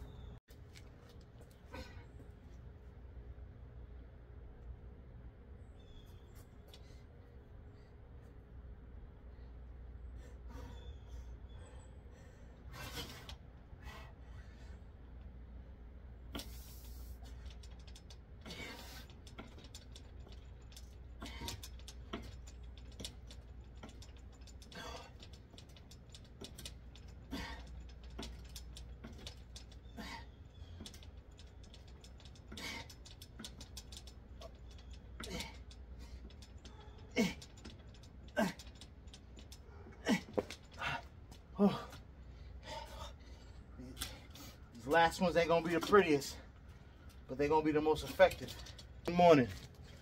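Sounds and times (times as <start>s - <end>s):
low steady rumble: 0.0s - 50.0s.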